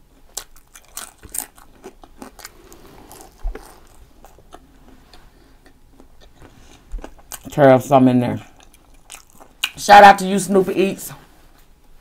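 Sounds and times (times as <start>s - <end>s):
person chewing fries: 0.0s - 9.8s.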